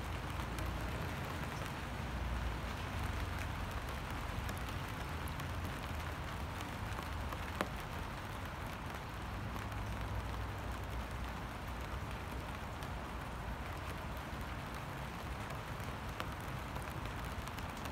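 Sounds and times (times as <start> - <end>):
steady rainfall: 0.0 - 17.9.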